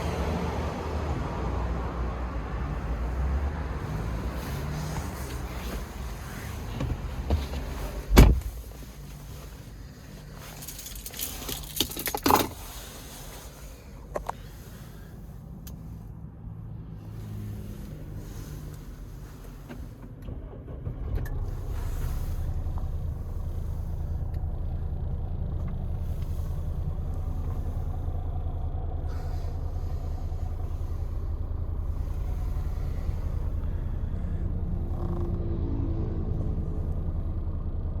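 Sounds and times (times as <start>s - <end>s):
pickup engine rumbling: 0.0s - 38.0s.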